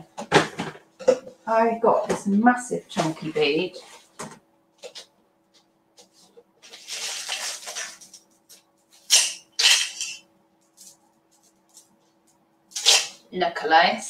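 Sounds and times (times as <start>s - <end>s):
faint steady hum: 0.0s - 14.0s
rustling and handling noises: 0.2s - 13.0s.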